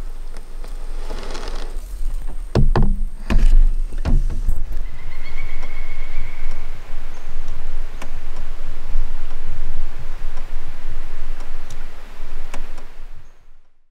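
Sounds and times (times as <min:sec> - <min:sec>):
low rumble: 0:00.0 - 0:13.3
faint hiss: 0:00.0 - 0:13.8.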